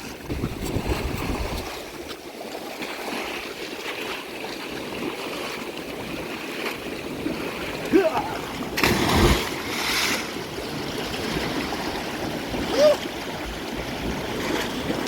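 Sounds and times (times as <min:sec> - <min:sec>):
water gushing and churning: 0:00.0 - 0:15.0.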